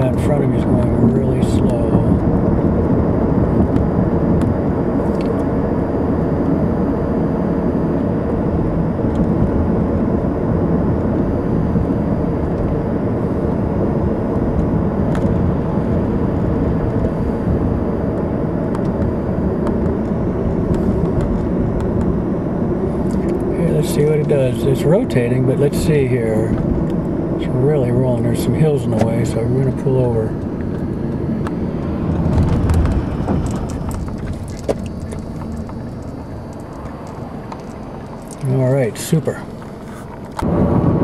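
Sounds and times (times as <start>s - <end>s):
faint steady hum: 0.0s - 41.0s
road and engine noise in car: 0.0s - 41.0s.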